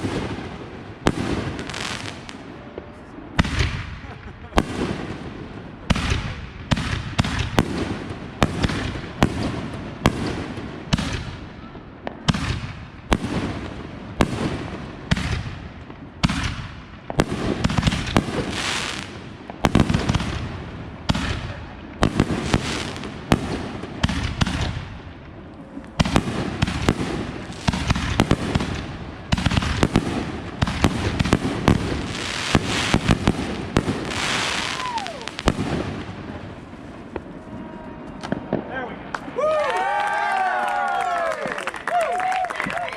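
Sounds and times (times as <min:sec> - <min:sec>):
fireworks bangs: 0:00.0 - 0:40.0
fireworks crackling: 0:00.0 - 0:42.9.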